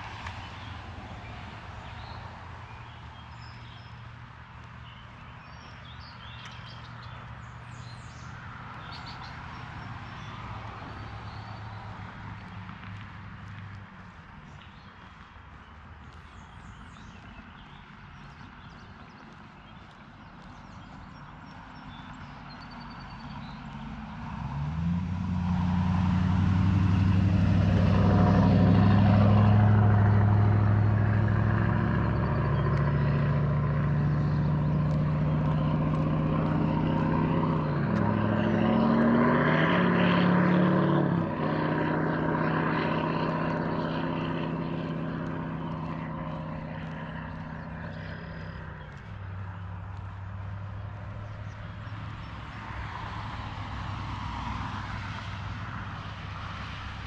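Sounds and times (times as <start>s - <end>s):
engine hum passing by: 0.0s - 57.0s.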